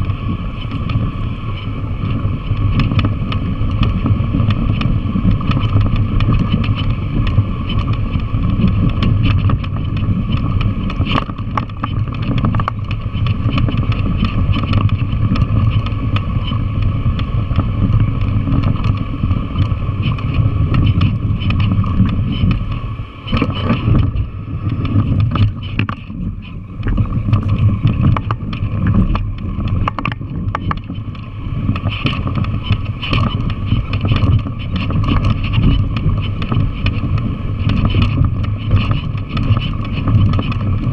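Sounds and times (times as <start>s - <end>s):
bike rattling over rocks: 0.0s - 40.9s
motorcycle engine running: 0.0s - 40.9s.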